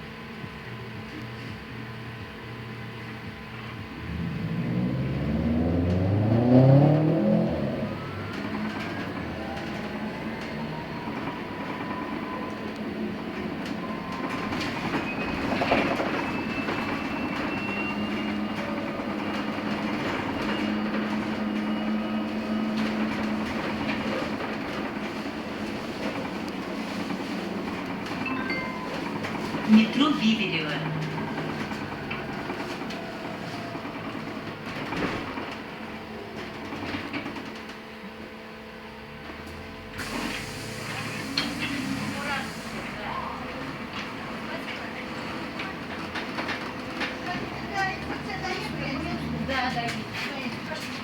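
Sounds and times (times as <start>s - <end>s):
road rumble: 0.0s - 51.0s.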